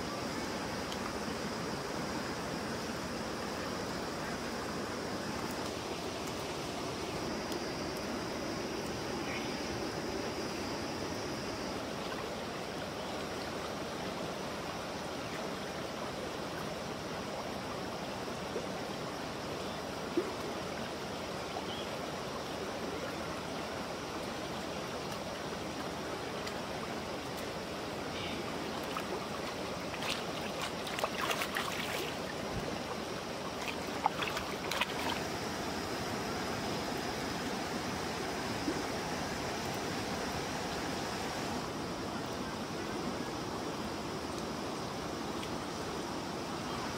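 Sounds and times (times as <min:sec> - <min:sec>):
river rushing: 0:00.0 - 0:46.9.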